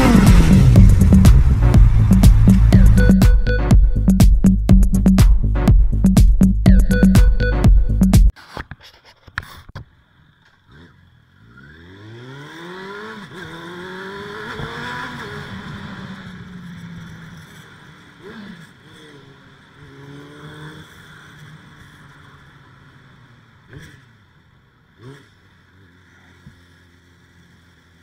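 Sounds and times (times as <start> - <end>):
motorcycle engine accelerating: 0.0 - 8.3, 10.3 - 28.0.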